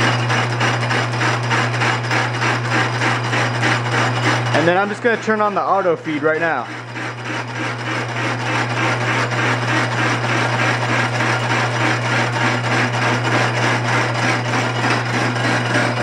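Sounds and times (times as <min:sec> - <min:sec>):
hole saw cutting metal: 0:00.0 - 0:16.0
lathe motor hum: 0:00.0 - 0:16.0.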